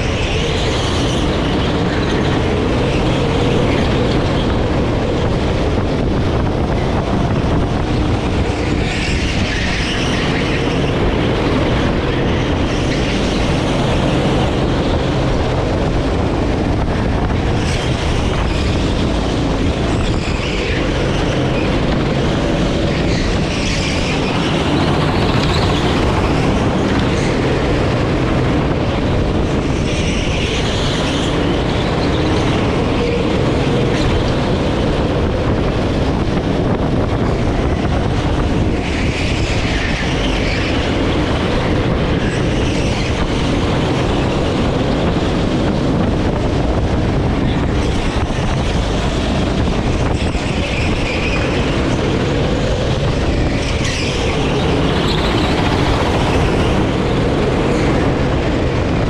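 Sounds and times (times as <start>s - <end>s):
kart engine running at speed: 0.0s - 59.0s.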